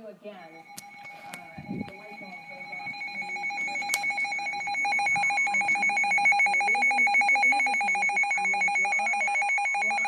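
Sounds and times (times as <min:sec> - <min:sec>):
shrill electronic alarm beeping: 0:00.4 - 0:10.0.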